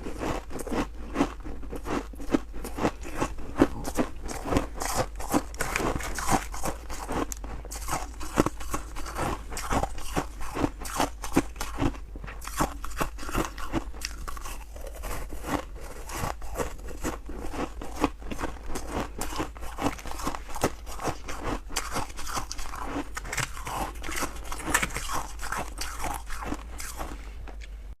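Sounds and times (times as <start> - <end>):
crunching and chewing ice: 0.0 - 27.8.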